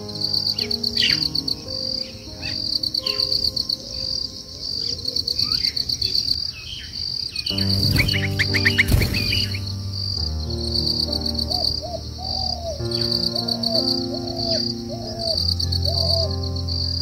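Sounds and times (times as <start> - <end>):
bird chirps: 0.0 - 17.0
insects trilling: 0.0 - 17.0.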